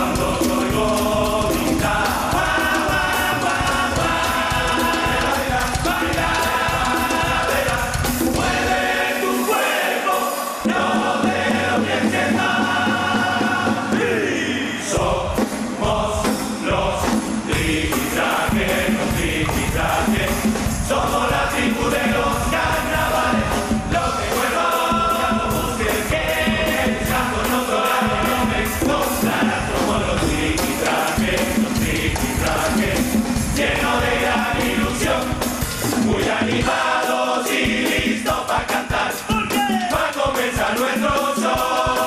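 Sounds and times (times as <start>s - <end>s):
drums and cymbals beat: 0.0s - 14.2s, 14.9s - 42.0s
men's choir singing in unison: 0.0s - 42.0s.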